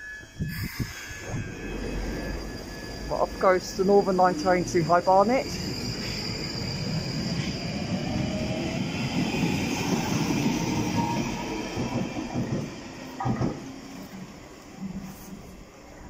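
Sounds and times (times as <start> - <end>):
train wheels rumbling on rails: 0.3 - 16.0.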